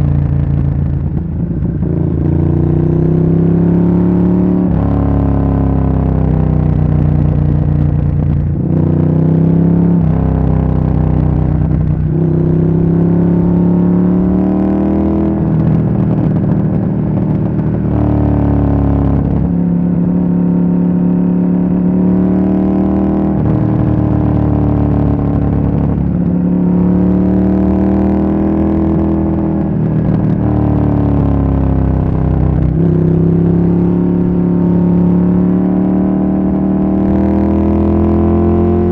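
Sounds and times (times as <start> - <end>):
motorcycle engine on the move: 0.0 - 38.9.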